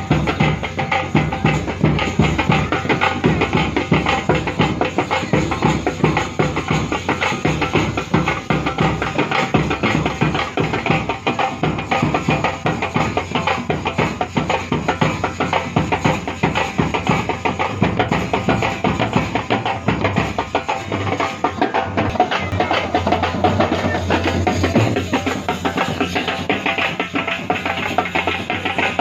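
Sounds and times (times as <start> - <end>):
music with fast dense drumming: 0.0 - 29.0.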